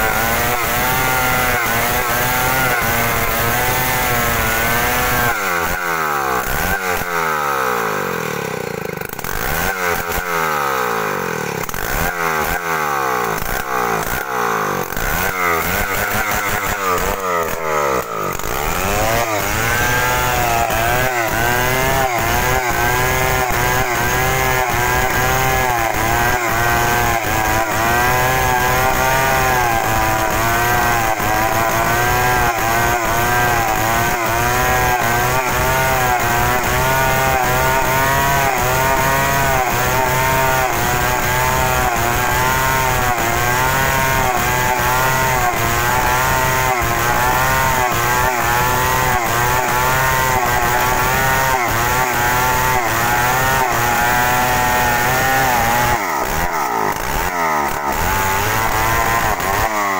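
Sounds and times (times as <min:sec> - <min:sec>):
chainsaw cutting timber: 0:00.0 - 0:59.9.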